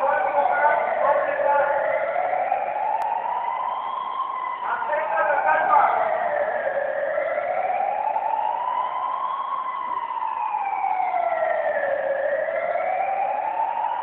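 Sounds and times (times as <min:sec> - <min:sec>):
wailing siren: 0:00.0 - 0:14.0.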